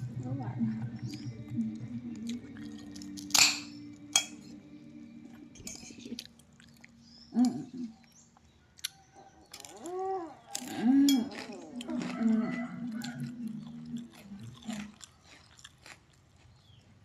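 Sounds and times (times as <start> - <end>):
person chewing: 1.0 - 4.6, 5.3 - 17.0.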